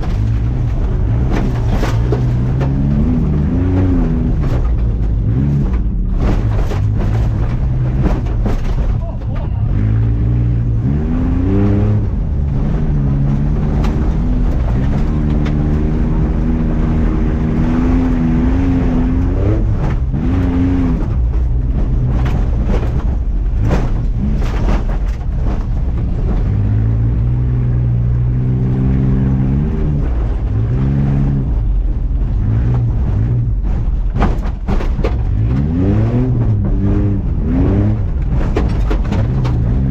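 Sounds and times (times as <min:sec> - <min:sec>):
race truck engines revving: 0:00.0 - 0:39.9.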